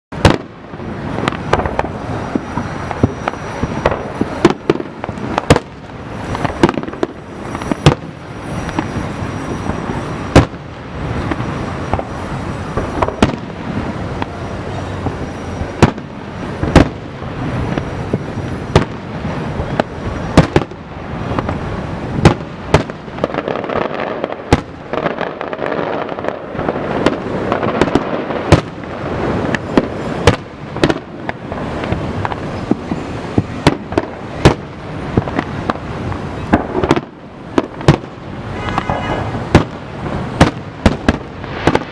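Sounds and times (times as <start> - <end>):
fireworks crackling: 0.1 - 41.9.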